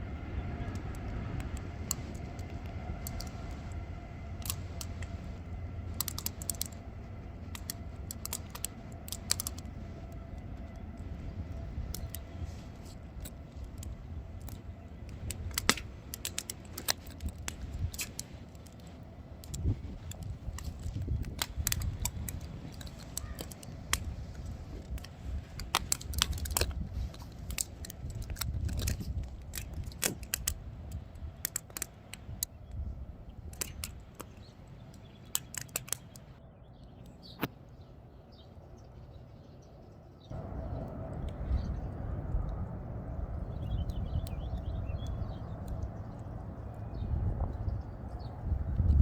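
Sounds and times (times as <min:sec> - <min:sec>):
low uneven rumble: 0:00.0 - 0:31.4, 0:39.9 - 0:49.0
wood fire crackling: 0:00.7 - 0:32.5, 0:40.3 - 0:49.0.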